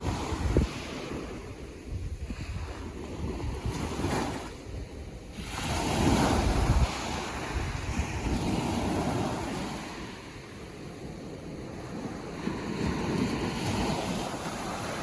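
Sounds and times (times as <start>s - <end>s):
ocean waves washing in: 0.0s - 15.0s
wind rumble on microphone: 0.0s - 15.0s.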